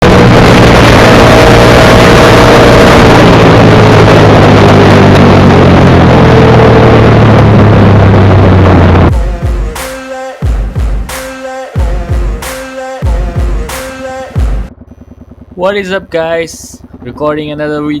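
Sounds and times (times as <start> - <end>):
motorcycle engine running: 0.0 - 9.8, 10.4 - 11.2, 11.8 - 18.0
dense rushing noise: 0.0 - 14.7.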